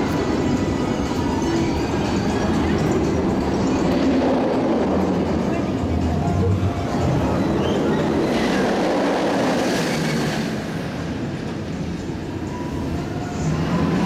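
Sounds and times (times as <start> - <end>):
roller coaster rumbling on rails: 0.0 - 14.0.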